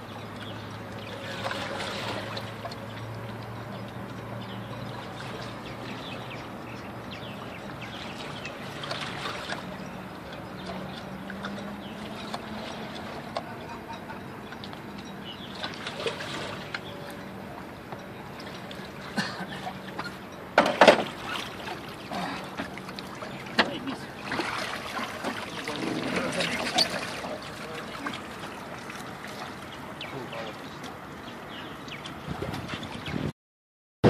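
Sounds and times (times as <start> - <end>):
water sloshing against boat hull: 0.0 - 33.3
water splashing: 0.0 - 33.3.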